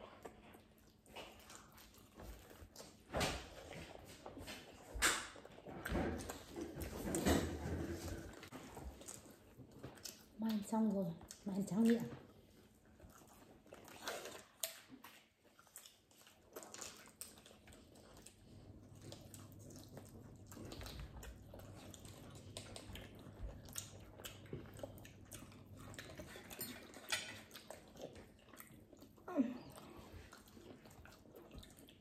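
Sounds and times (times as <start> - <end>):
people chewing fried chicken: 0.0 - 32.0.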